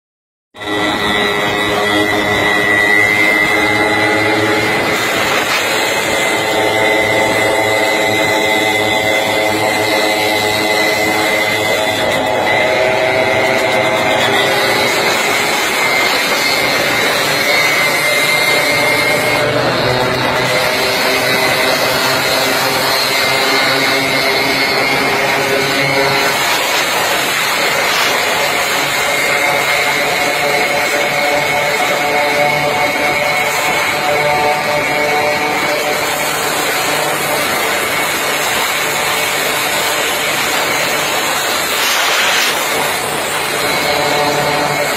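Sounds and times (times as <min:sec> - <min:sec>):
high whine: 0:00.6 - 0:44.9
motorcycle engine revving high: 0:00.6 - 0:44.9
wind noise on microphone: 0:00.6 - 0:44.9.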